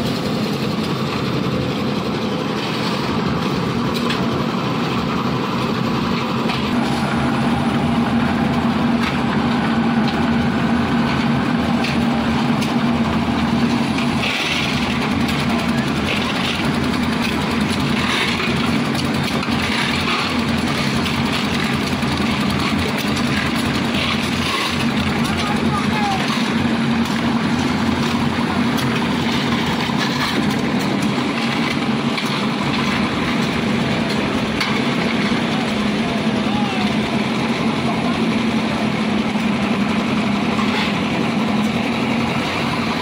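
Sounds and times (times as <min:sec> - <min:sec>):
concrete mixer engine running: 0:00.0 - 0:43.0.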